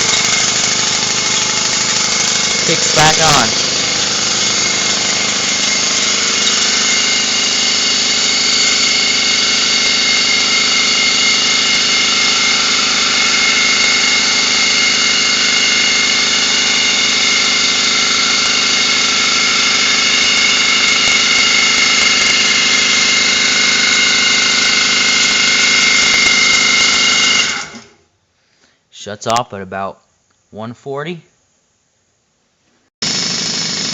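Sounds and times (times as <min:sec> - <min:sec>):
air compressor running: 0:00.0 - 0:28.0, 0:33.0 - 0:33.9.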